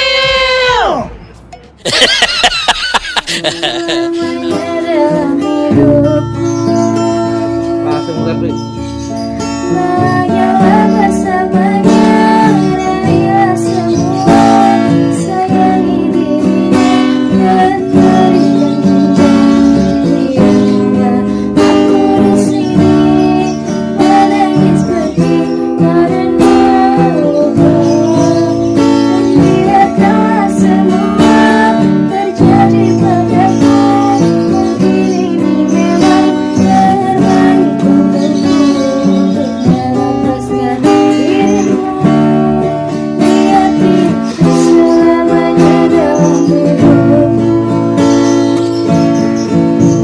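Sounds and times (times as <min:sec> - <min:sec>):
strummed acoustic guitar: 0:00.2 - 0:50.0.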